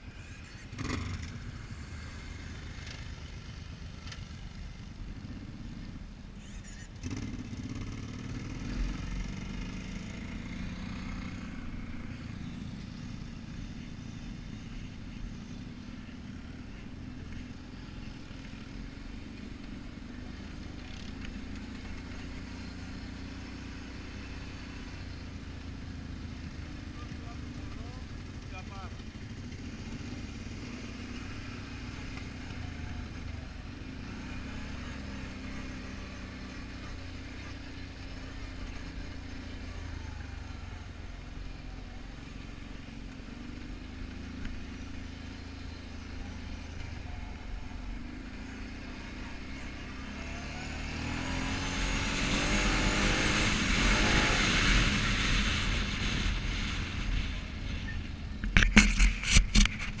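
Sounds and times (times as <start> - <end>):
quad bike engine revving: 0.6 - 5.9, 6.5 - 60.0.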